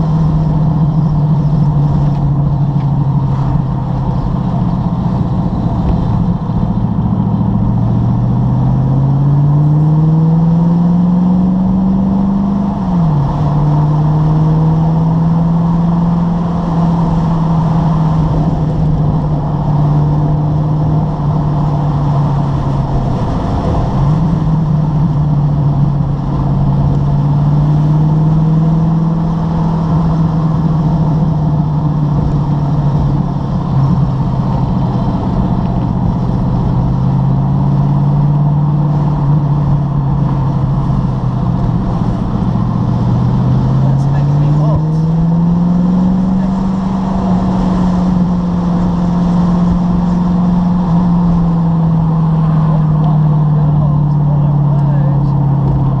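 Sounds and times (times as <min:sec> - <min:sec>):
sports car engine accelerating: 0:00.0 - 0:56.0.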